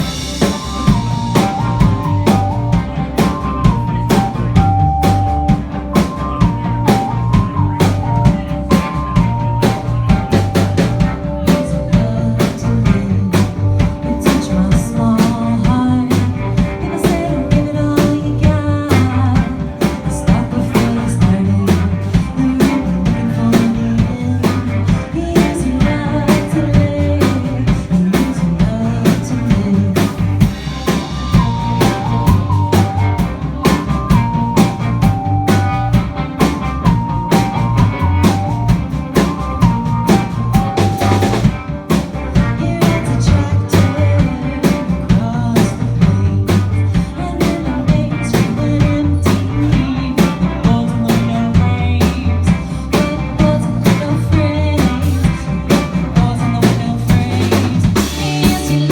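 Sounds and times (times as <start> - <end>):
bass line: 0.0 - 58.9
drum kit beat: 0.0 - 58.9
melodic lead line: 0.0 - 58.9.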